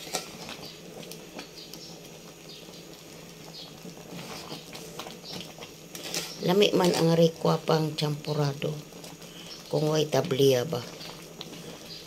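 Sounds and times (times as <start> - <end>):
porridge boiling in a pot: 0.0 - 12.0
spatula stirring and scraping: 0.0 - 12.0.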